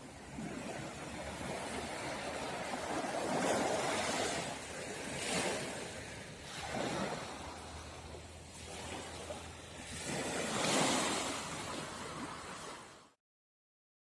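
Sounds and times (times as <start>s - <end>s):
small waves washing on beach: 0.0s - 13.2s.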